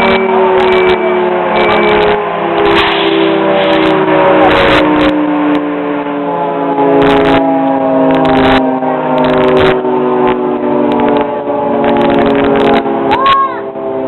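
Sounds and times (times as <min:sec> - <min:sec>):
air horns blaring: 0:00.0 - 0:14.0.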